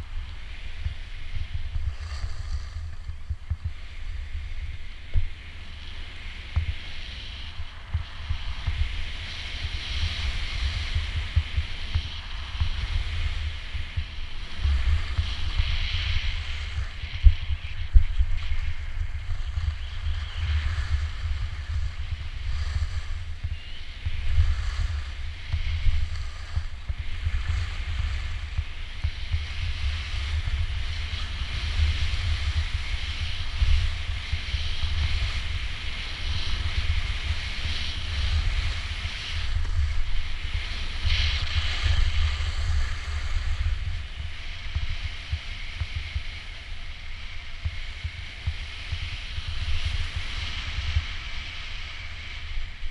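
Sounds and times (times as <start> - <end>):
skis hissing on snow: 0.0 - 52.9
wind rumbling on microphone: 0.0 - 52.9.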